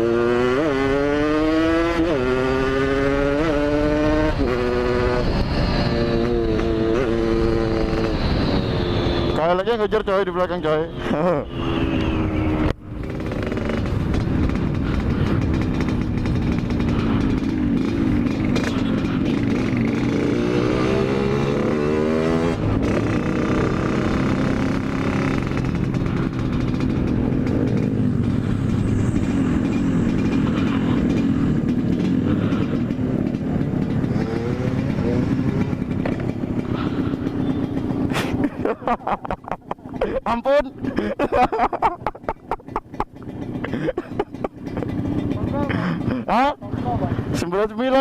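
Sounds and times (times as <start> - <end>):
two-stroke motorcycle engine: 0.0 - 48.0.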